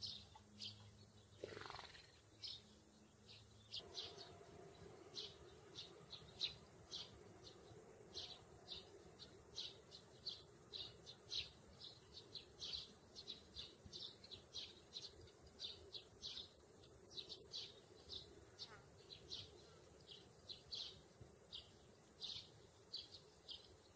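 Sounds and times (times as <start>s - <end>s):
faint steady hum: 0.0s - 23.9s
sparrow chirping: 0.0s - 23.9s.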